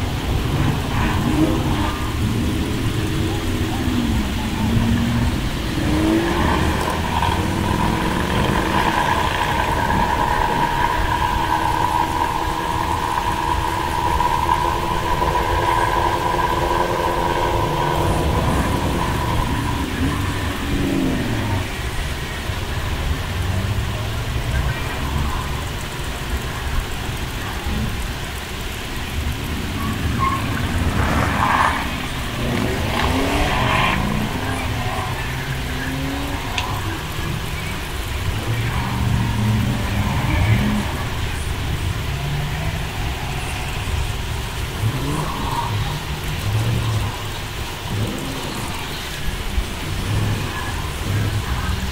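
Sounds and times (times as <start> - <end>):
car engines rumbling: 0.0 - 51.9
engine revving: 0.0 - 51.9
steady whine: 0.0 - 51.9.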